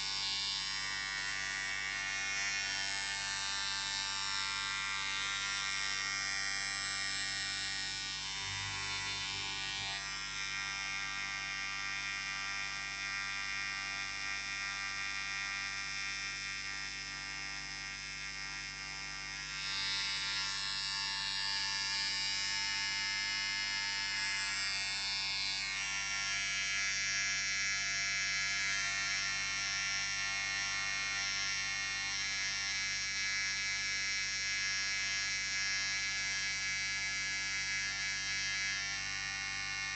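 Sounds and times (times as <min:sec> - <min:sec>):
electric beard trimmer buzzing: 0:00.0 - 0:39.9.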